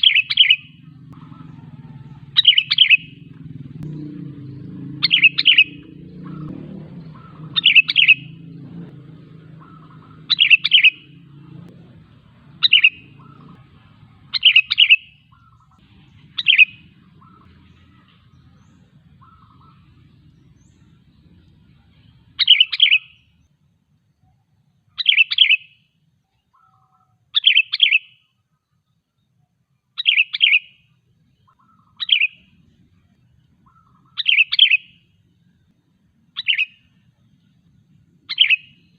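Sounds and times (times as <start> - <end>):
bird chirping phrases: 0.0 - 38.9.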